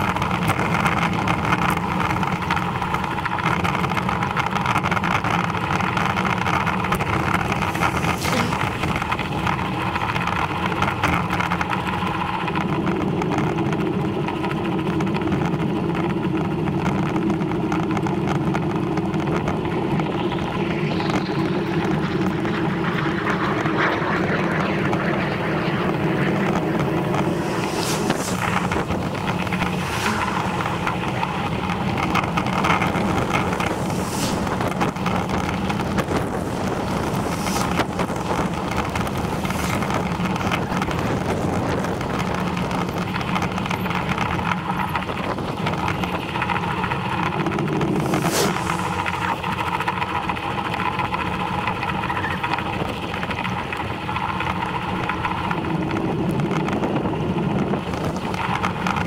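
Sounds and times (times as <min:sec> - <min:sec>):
bicycle tyre rumble on tarmac: 0:00.0 - 0:59.0.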